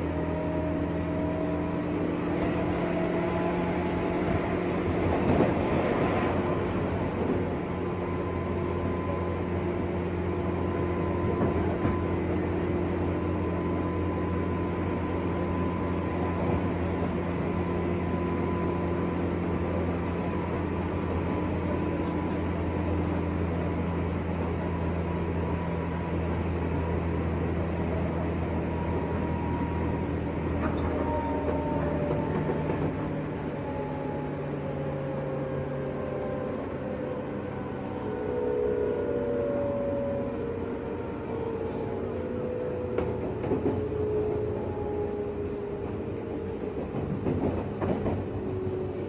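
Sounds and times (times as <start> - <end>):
train rumbling on rails: 0.0 - 49.0.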